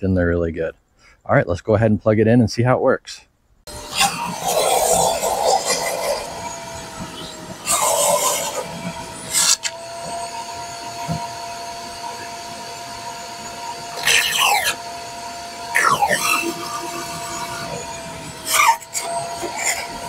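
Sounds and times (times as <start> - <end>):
shop vacuum whining: 3.7 - 20.0.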